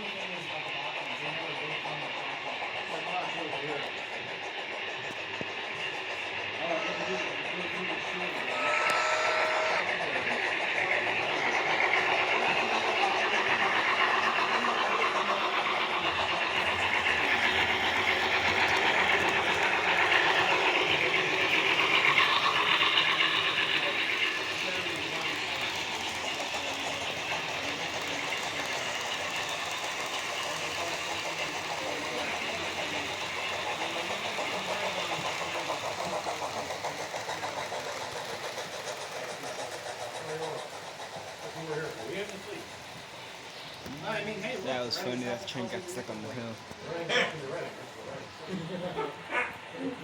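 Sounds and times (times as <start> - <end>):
model train whirring and ticking: 0.0 - 50.0.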